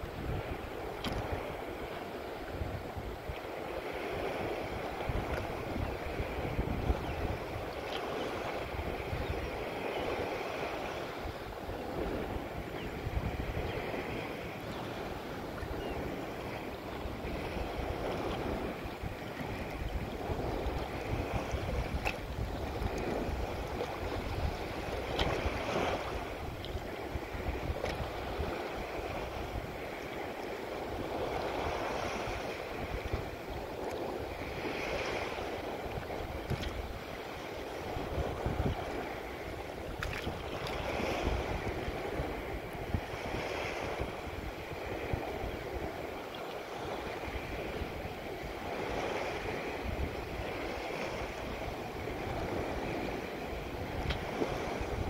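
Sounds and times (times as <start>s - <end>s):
water splashing past boat: 0.0s - 55.0s
wind rumbling on microphone: 0.0s - 55.0s.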